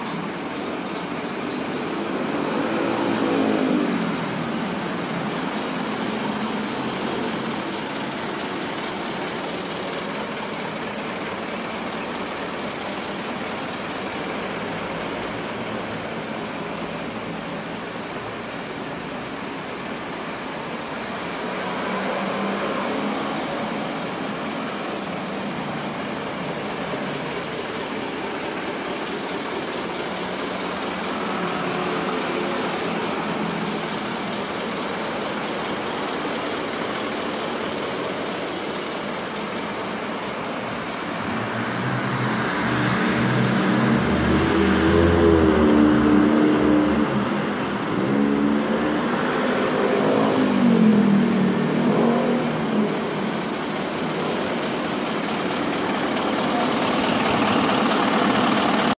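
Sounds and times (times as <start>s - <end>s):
diesel engine idling and revving: 0.0s - 59.0s.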